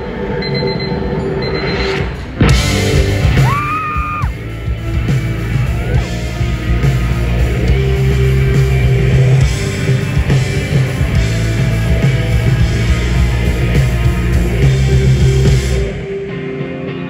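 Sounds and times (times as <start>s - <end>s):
live rock band: 2.0s - 17.0s.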